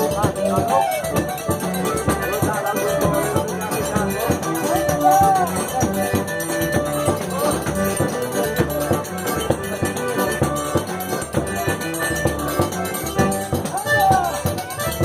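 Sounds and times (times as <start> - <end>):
percussion beat: 0.0 - 15.0.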